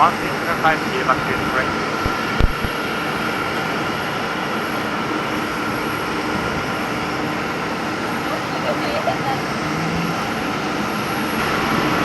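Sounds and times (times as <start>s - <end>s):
high whine: 0.0s - 12.0s
jet aircraft noise: 0.0s - 12.0s.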